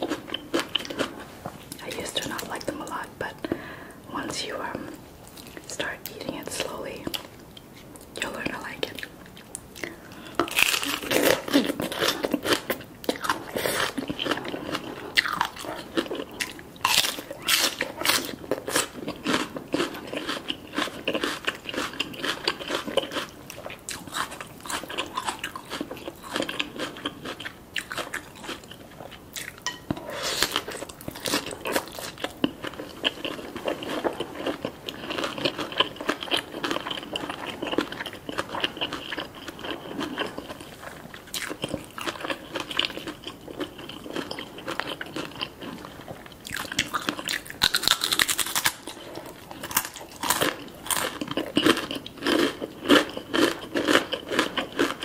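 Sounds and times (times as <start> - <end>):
soft chewing: 0.0 - 55.0
person crunching crispy food: 10.2 - 55.0.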